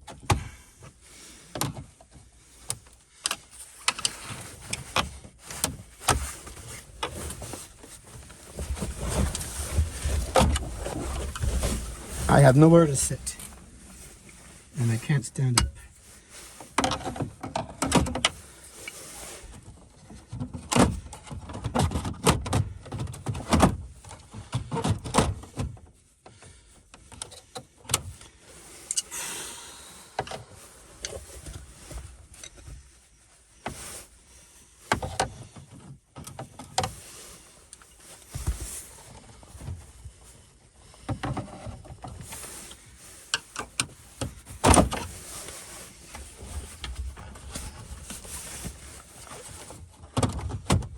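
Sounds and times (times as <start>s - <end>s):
rustling and handling noise: 0.8s - 21.7s, 29.7s - 50.9s.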